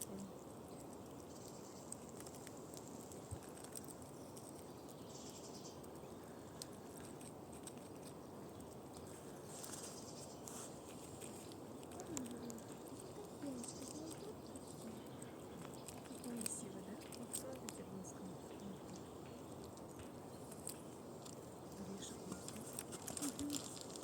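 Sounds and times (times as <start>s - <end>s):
squirrel gnawing a nut: 0.0s - 24.0s.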